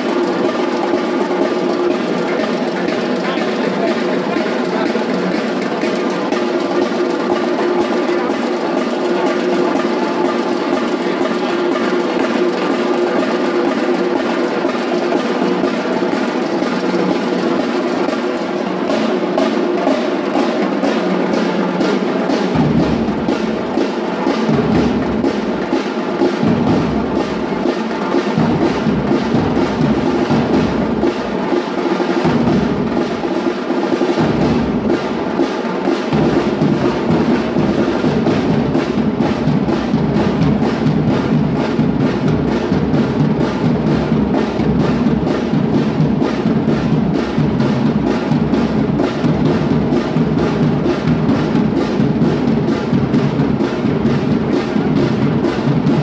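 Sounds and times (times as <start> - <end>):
samba percussion ensemble: 0.0 - 56.0.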